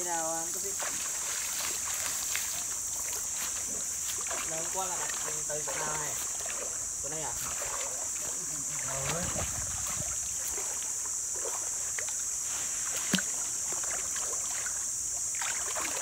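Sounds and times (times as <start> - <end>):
water sloshing around legs: 0.2 - 16.0.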